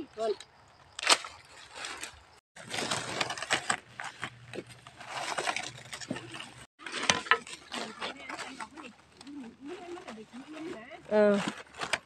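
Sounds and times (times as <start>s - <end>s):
dry leaves crackling: 1.0s - 12.0s.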